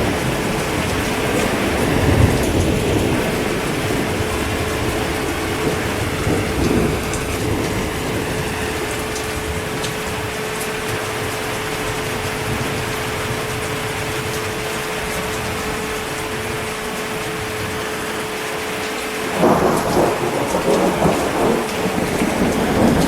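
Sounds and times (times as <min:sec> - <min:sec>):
thunder rumbling: 0:00.0 - 0:17.9, 0:19.2 - 0:23.0
heavy rain falling: 0:00.0 - 0:23.0.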